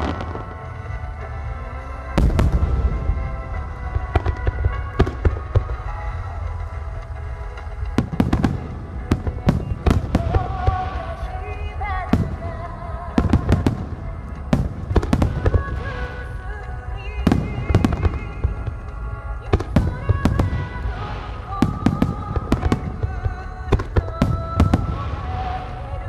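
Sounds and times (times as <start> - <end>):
fireworks bursting: 0.0 - 26.0
music playing: 0.0 - 26.0.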